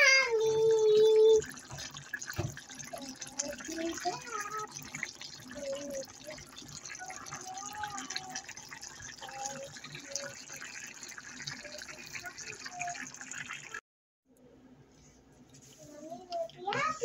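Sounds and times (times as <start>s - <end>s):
sauce bubbling in a pan: 0.0s - 13.8s.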